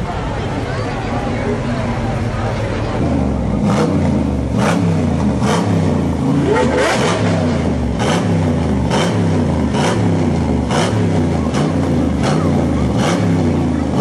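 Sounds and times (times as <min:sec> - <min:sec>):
car engine revving: 0:02.8 - 0:14.0.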